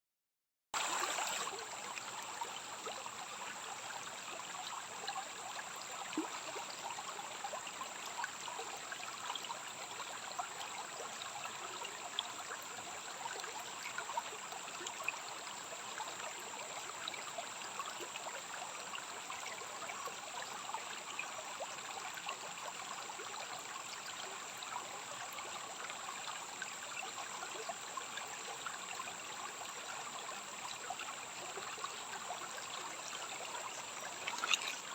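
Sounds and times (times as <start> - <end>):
stream water babbling: 0.8 - 34.9.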